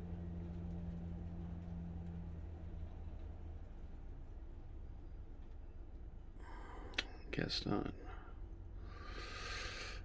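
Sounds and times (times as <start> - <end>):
steady low room hum: 0.0 - 10.0.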